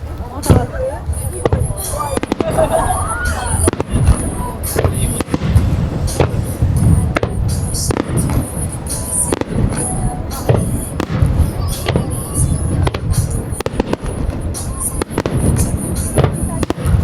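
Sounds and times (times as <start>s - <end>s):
fireworks bangs: 0.0s - 17.0s
low rumble of explosions: 0.0s - 17.0s.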